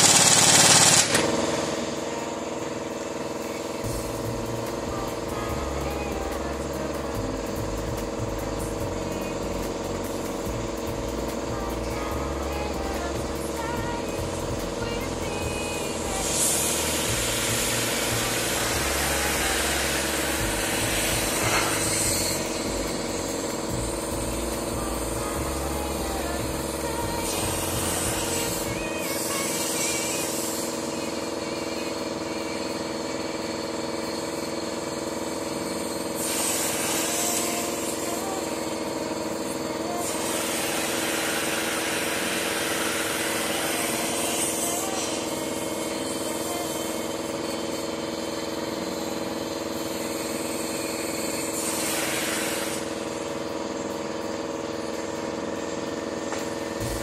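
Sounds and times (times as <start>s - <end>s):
torch hissing: 0.0s - 32.8s, 34.1s - 57.0s
machine hum: 0.0s - 57.0s.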